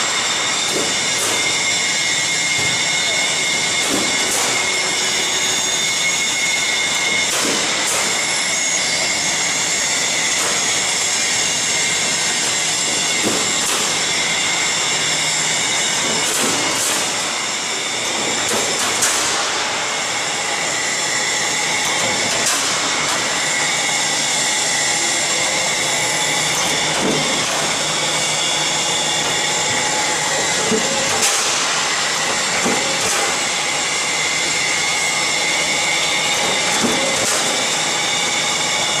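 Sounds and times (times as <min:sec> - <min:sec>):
machine whirring and whining: 0:00.0 - 0:39.0.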